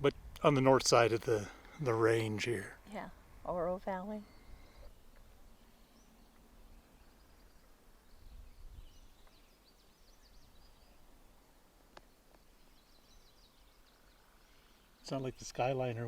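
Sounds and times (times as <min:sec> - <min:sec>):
distant bird chirps: 0:01.4 - 0:16.0.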